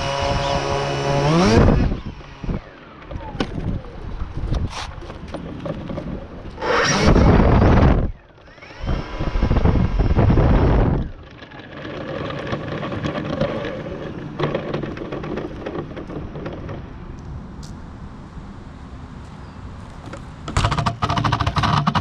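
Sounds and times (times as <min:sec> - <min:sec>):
model airplane engine cranking: 0:00.0 - 0:16.8, 0:20.5 - 0:22.0.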